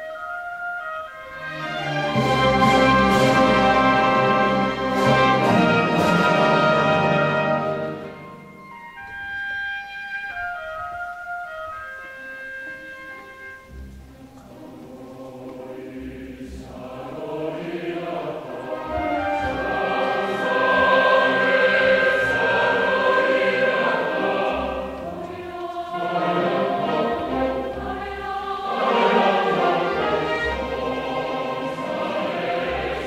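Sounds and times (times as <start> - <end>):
choir singing with music: 0.0 - 9.1, 12.9 - 33.0.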